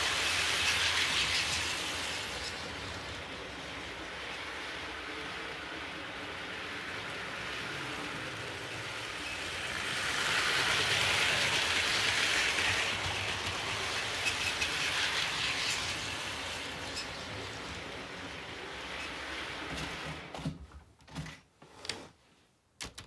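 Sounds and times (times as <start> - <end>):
model train running on track: 0.0 - 20.3.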